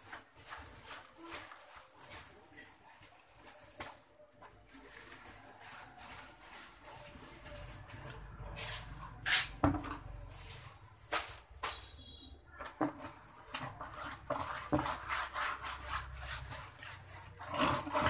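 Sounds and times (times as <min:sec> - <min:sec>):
plastic bag rustling: 0:00.0 - 0:18.0.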